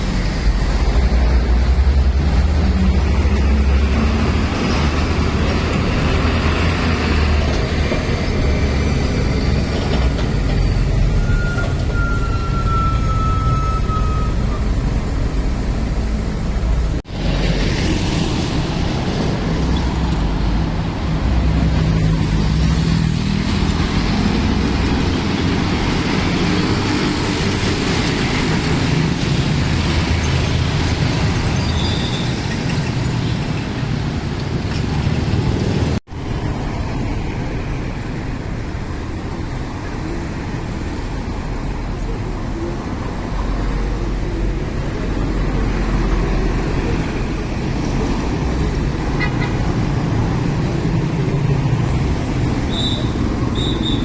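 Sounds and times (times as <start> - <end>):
road noise: 0.0 - 54.0
trucks driving past: 0.0 - 54.0.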